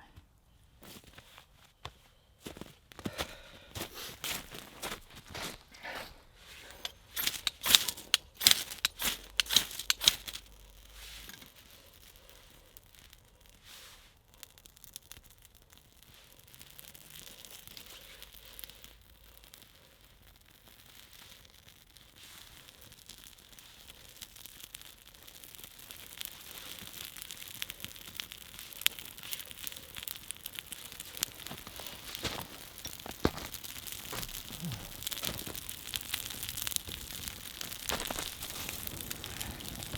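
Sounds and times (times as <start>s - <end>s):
campfire crackling: 2.4s - 39.9s
tinder tearing and crinkling: 2.5s - 39.9s.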